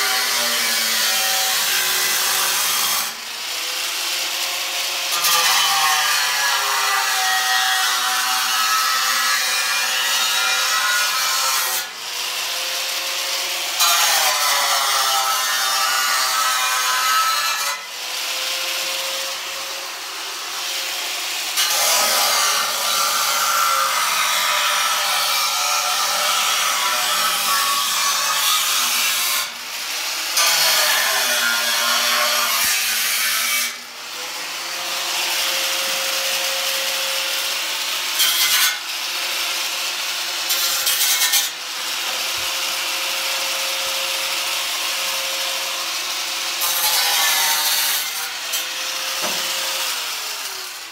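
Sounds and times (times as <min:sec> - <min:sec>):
angle grinder cutting sheet metal: 0:00.0 - 0:50.9.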